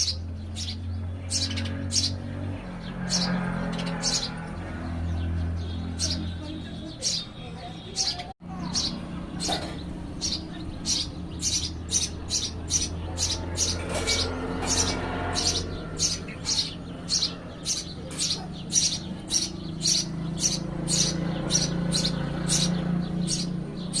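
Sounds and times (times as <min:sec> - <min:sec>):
baby birds chirping: 0:00.0 - 0:24.0.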